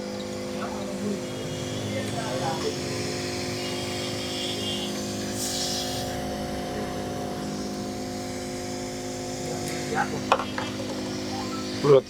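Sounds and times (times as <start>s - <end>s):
vacuum pump humming: 0.0s - 12.0s.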